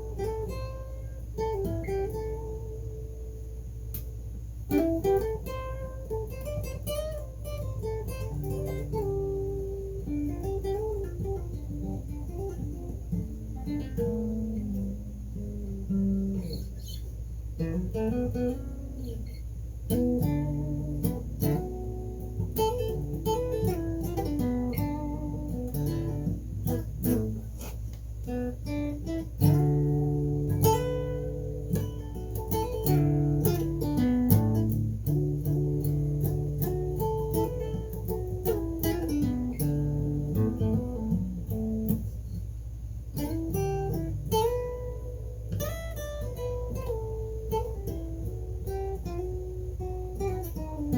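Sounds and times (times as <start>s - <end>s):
guitar playing: 0.0s - 50.9s
steady low hum: 0.0s - 50.9s.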